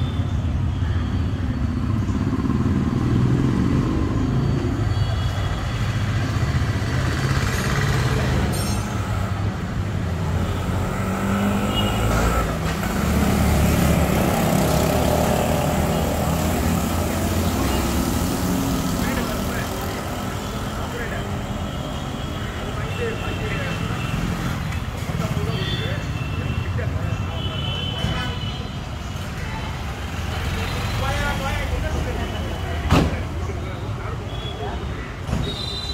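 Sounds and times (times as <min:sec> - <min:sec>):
traffic engine hum: 0:00.0 - 0:35.9.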